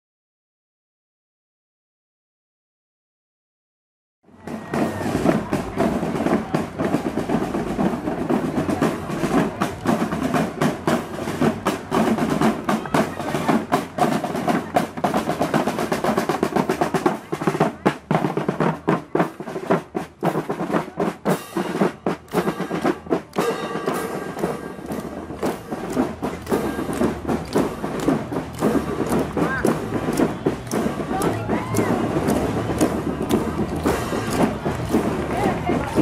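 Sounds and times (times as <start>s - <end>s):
marching drum corps: 4.3s - 36.0s
snare drum rolls: 4.3s - 36.0s.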